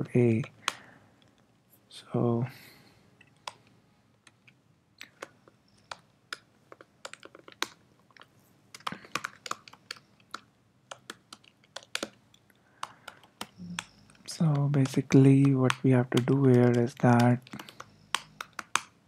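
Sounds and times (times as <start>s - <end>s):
keyboard typing: 3.2s - 19.0s.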